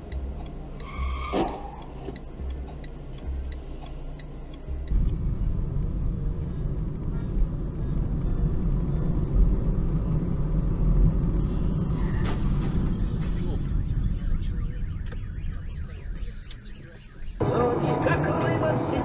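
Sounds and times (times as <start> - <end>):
light regular ticking: 0.0 - 17.4
vehicle driving rumble: 0.0 - 19.0.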